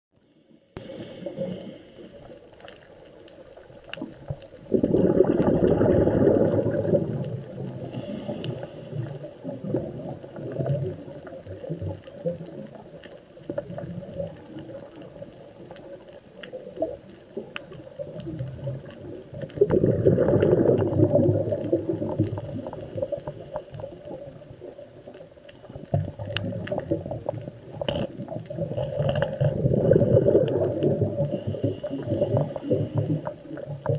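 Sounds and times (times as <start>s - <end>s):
low underwater rumble: 0.2s - 33.9s
underwater bubbling bursts: 0.6s - 33.9s
faint clicks: 0.9s - 5.6s, 6.2s - 33.9s.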